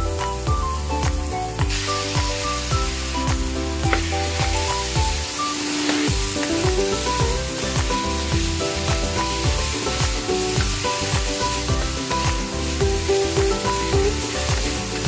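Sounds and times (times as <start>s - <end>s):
background music with steady beat: 0.0s - 15.0s
noodles sizzling in a hot pan: 0.0s - 15.0s.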